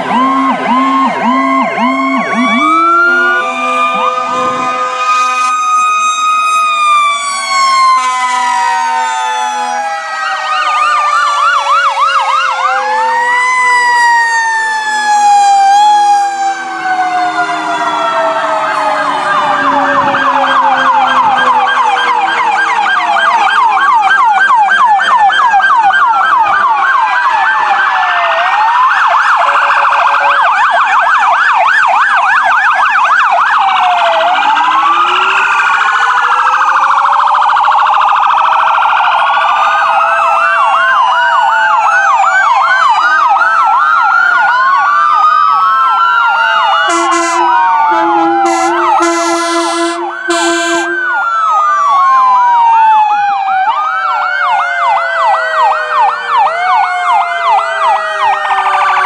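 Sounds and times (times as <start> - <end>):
emergency vehicle sirens wailing: 0.0 - 59.0.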